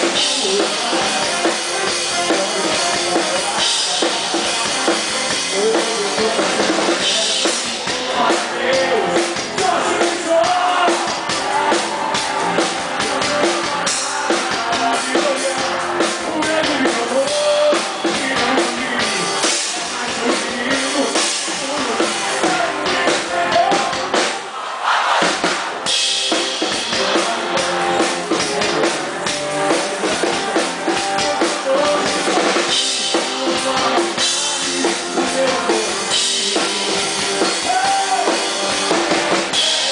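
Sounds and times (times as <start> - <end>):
live band music: 0.0 - 39.9
loud drum kit: 0.0 - 39.9.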